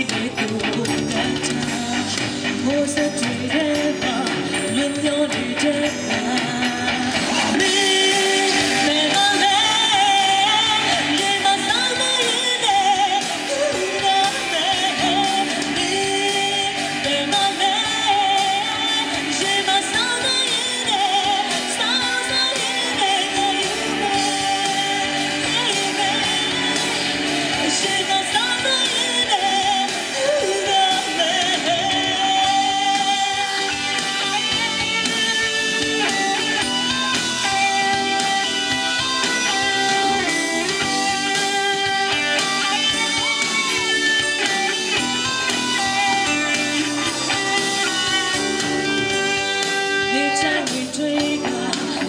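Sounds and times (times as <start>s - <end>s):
full band with drums: 0.0s - 52.0s
woman singing into microphone: 0.0s - 52.0s.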